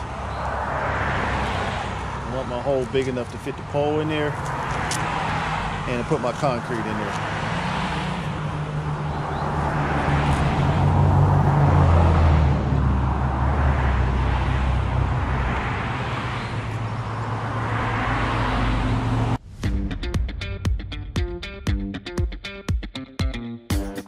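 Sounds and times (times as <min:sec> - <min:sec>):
cars passing: 0:00.0 - 0:22.6.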